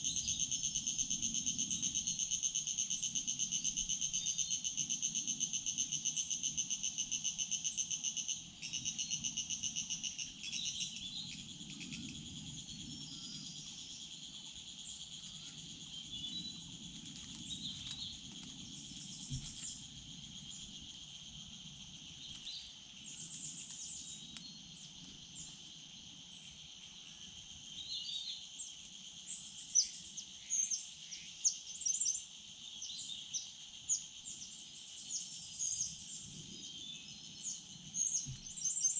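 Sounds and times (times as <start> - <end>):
insects calling: 0.0 - 38.9.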